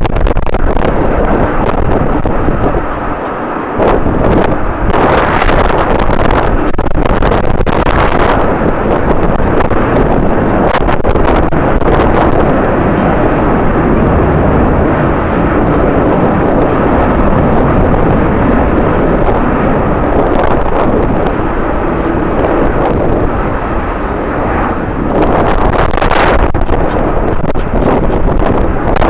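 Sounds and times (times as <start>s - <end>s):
jet airliner engines running: 0.0s - 29.0s
wind buffeting microphone: 0.0s - 29.0s.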